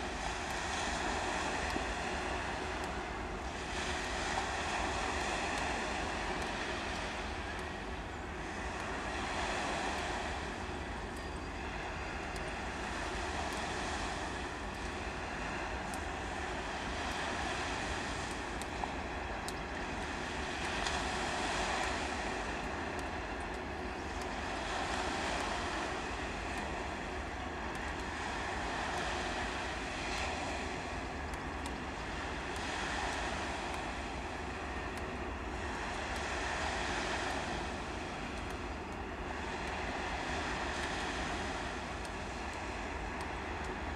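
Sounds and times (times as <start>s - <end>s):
water washing at shoreline: 0.0s - 43.9s.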